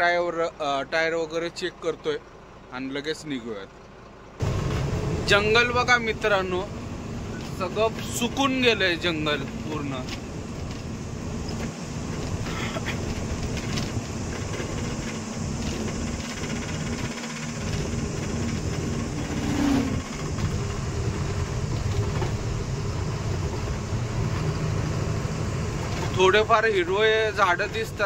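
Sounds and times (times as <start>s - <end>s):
truck engine and road rumble: 0.0s - 28.0s.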